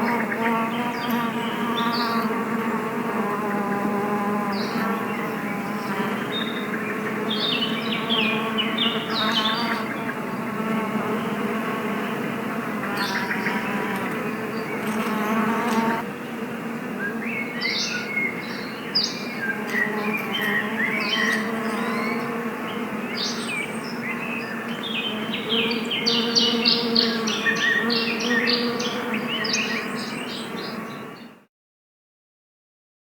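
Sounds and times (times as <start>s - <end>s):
bees humming: 0.0s - 31.3s
small birds chirping: 0.0s - 31.4s.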